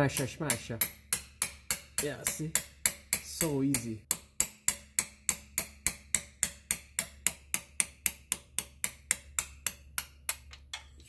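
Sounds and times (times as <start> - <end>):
hammer tapping metal pin punch: 0.0 - 10.9.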